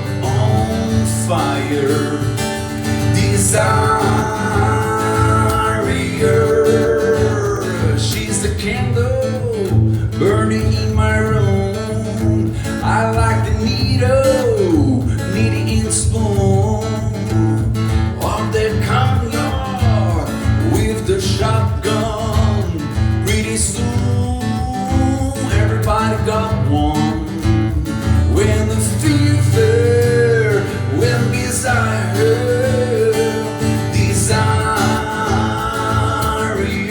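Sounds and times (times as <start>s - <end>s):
acoustic guitar strumming: 0.0s - 36.9s
person singing: 0.0s - 36.9s.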